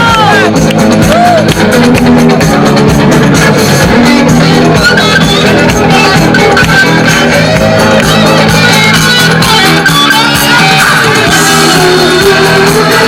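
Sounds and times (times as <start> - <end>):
dance music with guitar: 0.0 - 13.0.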